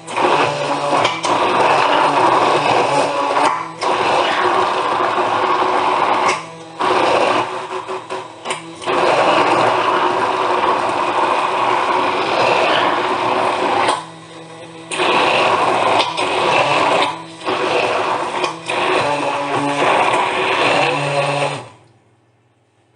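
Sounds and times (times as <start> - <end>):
electric mixer motor whining: 0.0 - 21.8.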